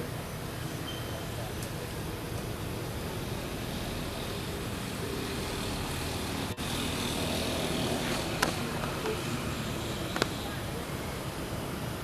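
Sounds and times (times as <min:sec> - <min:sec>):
outdoor hiss and rumble: 0:00.0 - 0:12.0.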